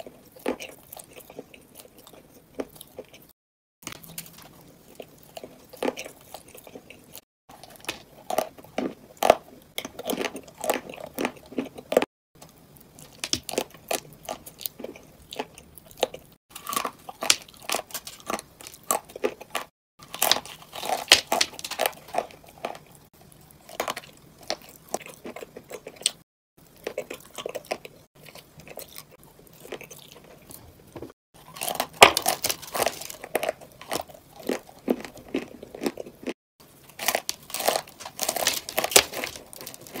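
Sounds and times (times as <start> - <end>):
chewing dry clay crunches: 0.0 - 30.6, 31.4 - 40.0.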